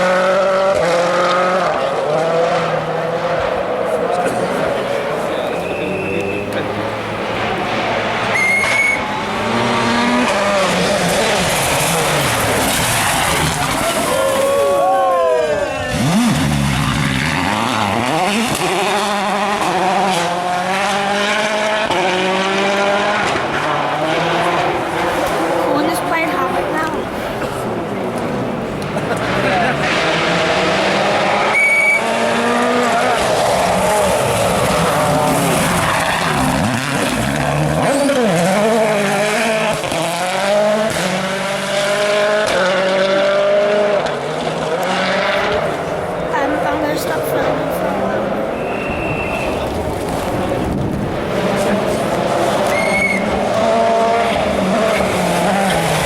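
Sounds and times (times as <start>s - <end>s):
rally car engine at high revs: 0.0s - 56.0s.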